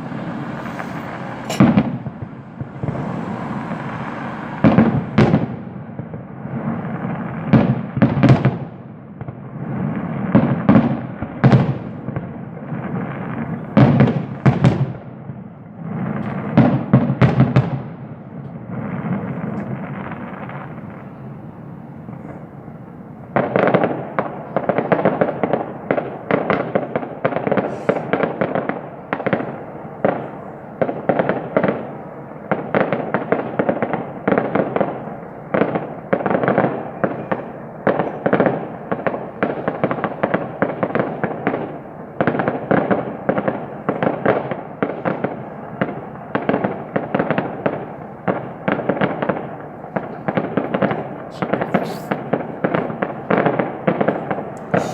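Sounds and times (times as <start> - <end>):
fireworks cracking and banging: 0.0 - 21.1, 23.3 - 54.9.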